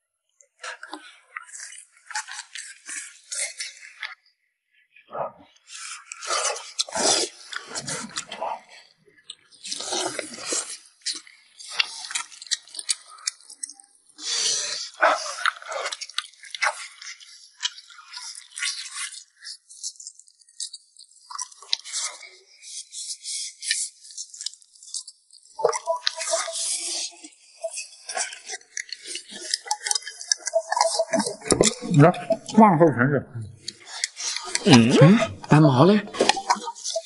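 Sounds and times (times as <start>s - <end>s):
loud chewing and slurping: 0.8s - 4.1s, 5.7s - 25.2s, 25.8s - 32.5s, 33.6s - 37.0s.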